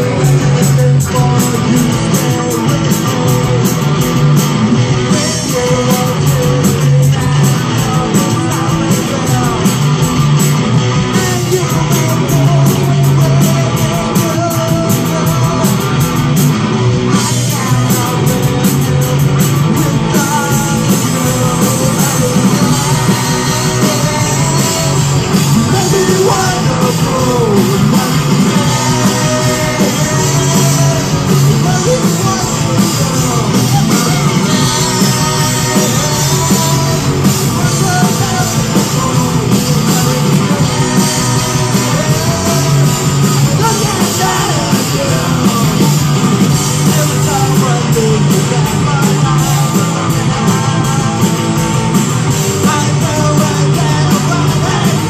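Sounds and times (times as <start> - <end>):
bass guitar: 0.0 - 55.0
drum kit: 0.0 - 55.0
electric guitars: 0.0 - 55.0
lead vocal singing: 0.0 - 55.0.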